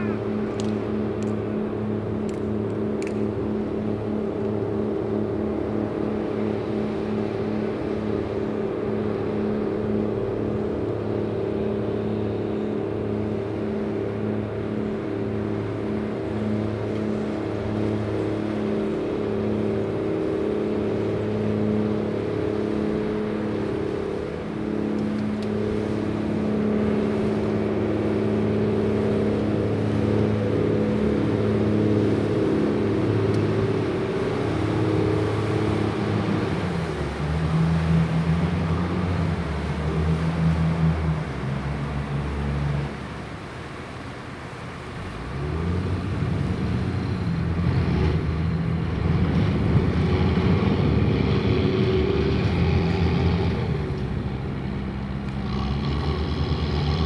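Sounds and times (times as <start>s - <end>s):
boat diesel engine droning: 0.0s - 57.0s.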